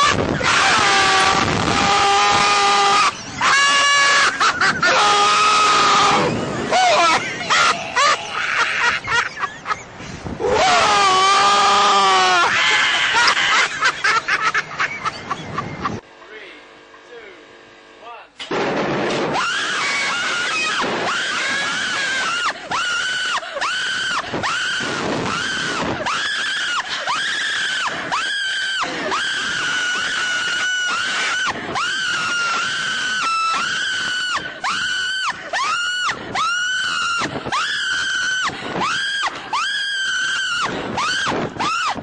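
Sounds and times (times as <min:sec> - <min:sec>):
riders screaming: 0:00.0 - 0:09.2, 0:10.4 - 0:14.0, 0:19.3 - 0:42.0.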